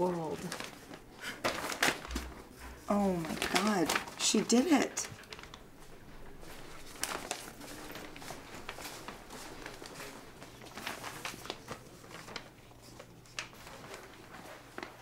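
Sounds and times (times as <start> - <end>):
newspaper pages rustling: 0.0 - 15.0
soft clicks of paper handling: 0.3 - 15.0.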